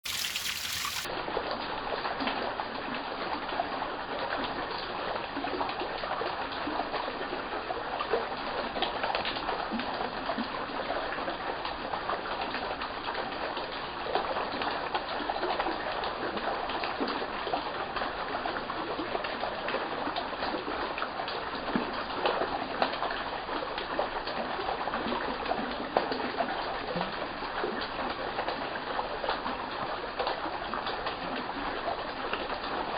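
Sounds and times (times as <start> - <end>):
stream water trickling: 0.0 - 32.9.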